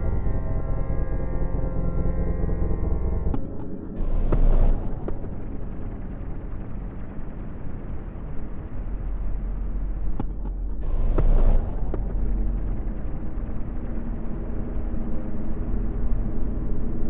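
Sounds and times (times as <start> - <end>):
deep rumbling drone: 0.0 - 17.0
faint steady tones: 0.0 - 17.0.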